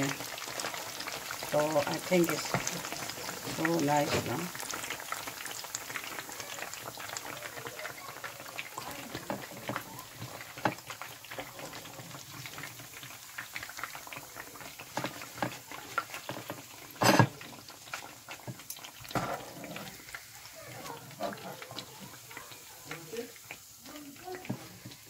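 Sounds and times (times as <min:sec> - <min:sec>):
food deep-frying in oil: 0:00.0 - 0:25.0.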